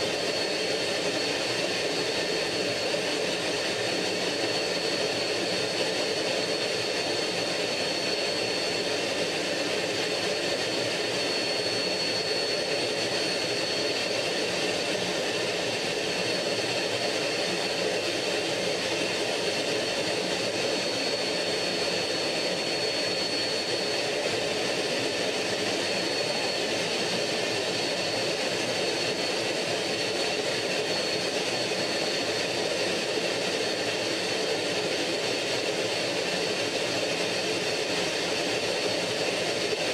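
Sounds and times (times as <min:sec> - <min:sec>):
jet engine roar with high whine: 0:00.0 - 0:39.9.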